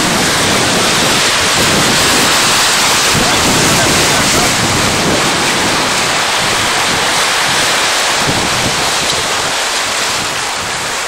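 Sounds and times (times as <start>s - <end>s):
sea surf washing against rocks: 0.0s - 11.0s
wind buffeting microphone: 0.0s - 11.0s.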